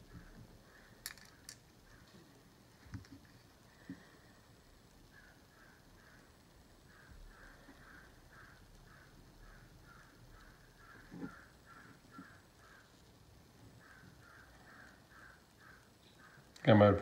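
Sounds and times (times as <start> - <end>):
faint repeating animal call: 0.0 - 2.7, 3.6 - 17.0.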